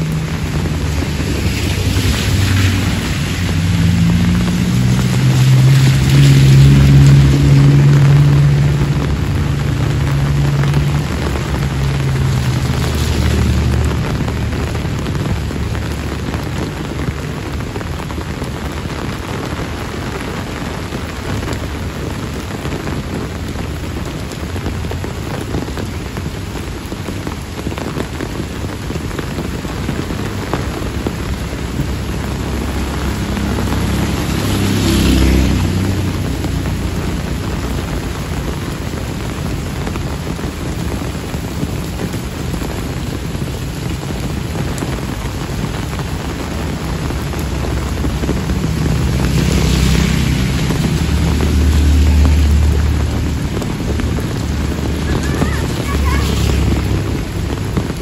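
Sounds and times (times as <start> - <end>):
heavy rain on pavement: 0.0 - 58.0
vehicle engine humming: 0.0 - 58.0.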